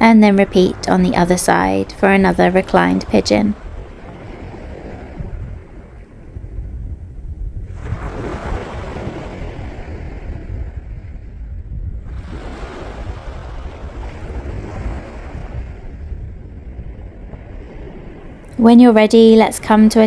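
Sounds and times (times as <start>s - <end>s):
sea waves washing onto beach: 0.0s - 6.5s, 7.7s - 10.8s, 12.0s - 20.0s
wind rumble on microphone: 0.0s - 20.0s.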